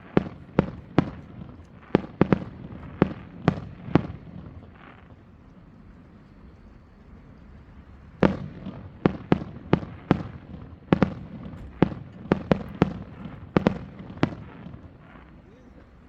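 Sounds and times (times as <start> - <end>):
fireworks bursting with booms: 0.0 - 16.0.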